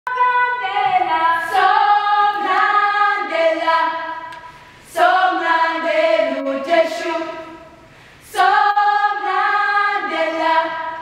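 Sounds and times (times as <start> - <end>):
children's choir singing: 0.1 - 11.0.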